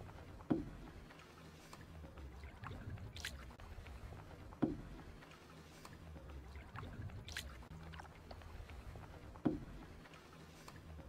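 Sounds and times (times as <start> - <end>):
paddle swishing through water: 0.0 - 11.0.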